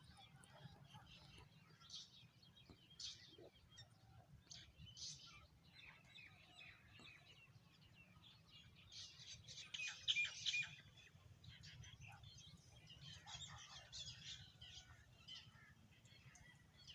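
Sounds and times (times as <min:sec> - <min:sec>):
sparrows chirping: 0:00.0 - 0:16.9.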